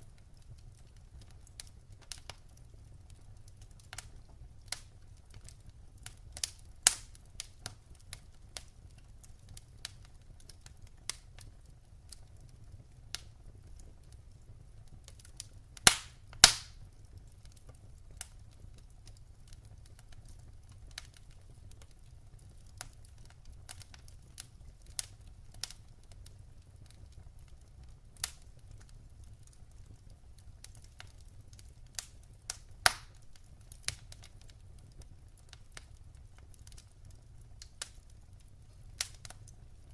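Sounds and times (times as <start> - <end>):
fireplace fire crackling: 0.0 - 39.9
low fire rumble: 0.0 - 39.9.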